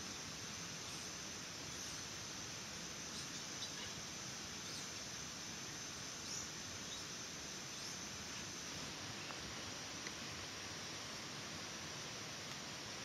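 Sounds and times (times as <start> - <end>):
steady even hiss: 0.0 - 13.0.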